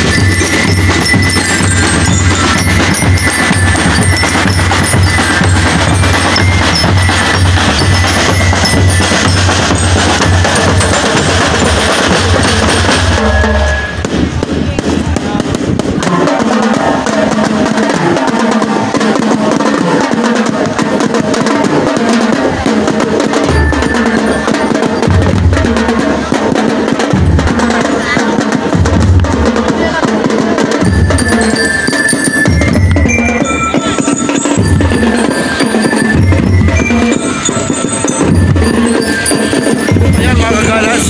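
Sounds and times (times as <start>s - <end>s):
bell lyres: 0.0s - 14.0s, 16.2s - 41.0s
bass drum beat: 0.0s - 31.7s, 32.4s - 41.0s
marching band drums: 0.0s - 41.0s.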